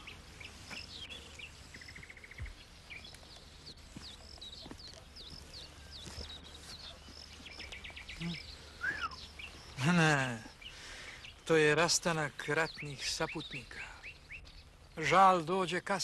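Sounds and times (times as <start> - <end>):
birds singing: 0.0 - 16.0
faint outdoor background noise: 0.0 - 16.0.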